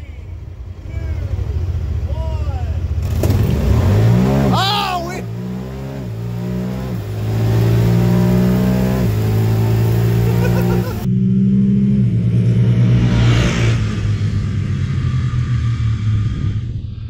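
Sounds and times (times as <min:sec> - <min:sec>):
engine accelerating hard: 0:00.7 - 0:17.0.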